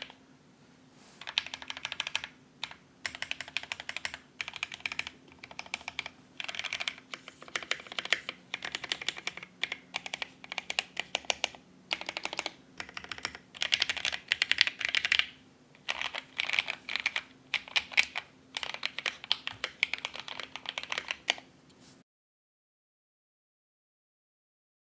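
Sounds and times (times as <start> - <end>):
mechanical keyboard typing: 1.2 - 21.4.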